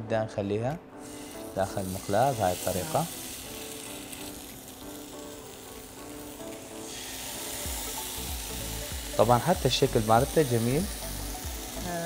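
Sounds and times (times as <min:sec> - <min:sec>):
chicken sizzling in a frying pan: 0:01.0 - 0:12.0.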